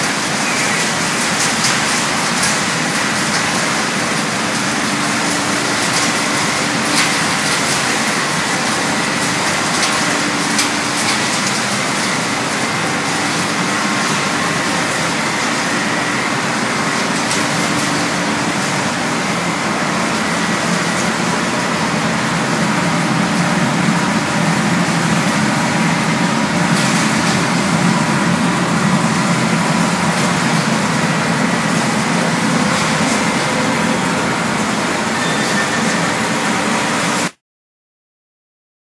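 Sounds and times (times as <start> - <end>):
industrial machinery running: 0.0 - 37.4.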